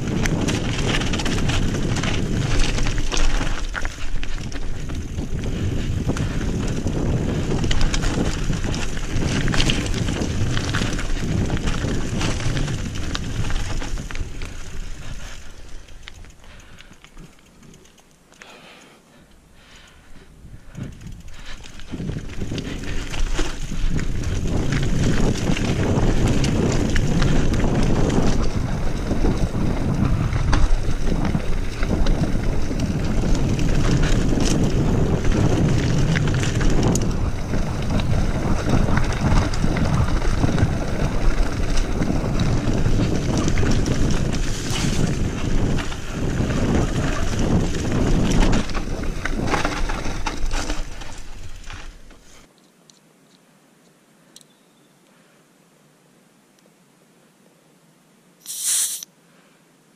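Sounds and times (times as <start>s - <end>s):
wind buffeting microphone: 0.0s - 17.4s, 19.6s - 52.1s
bike knocking and rattling: 0.0s - 18.6s, 19.6s - 52.4s.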